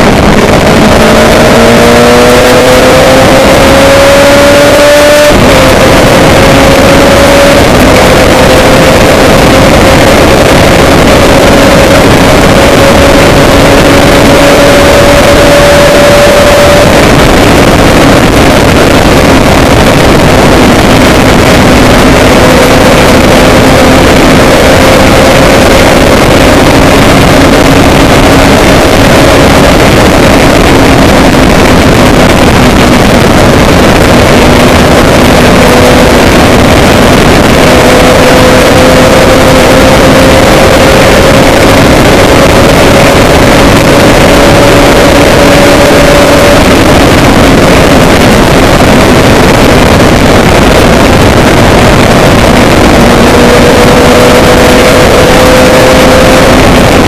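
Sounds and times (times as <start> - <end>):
loud rushing noise: 0.0 - 57.0
low engine hum: 0.0 - 57.0.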